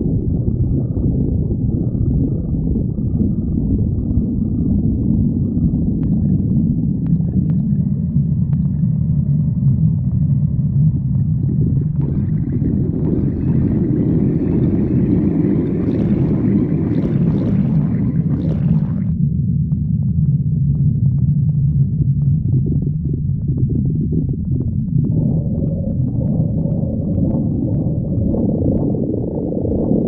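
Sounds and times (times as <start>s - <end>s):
stomach growling: 0.0s - 19.2s, 20.0s - 30.0s.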